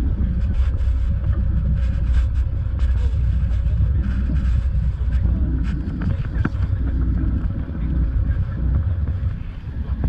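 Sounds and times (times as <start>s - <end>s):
motorboat engine rumble: 0.0s - 10.0s
wind noise on microphone: 0.0s - 10.0s.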